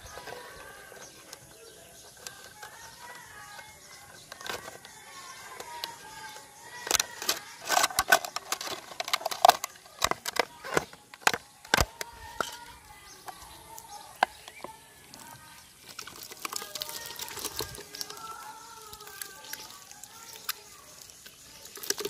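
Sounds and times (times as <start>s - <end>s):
plastic bottle crackling: 0.0s - 22.0s.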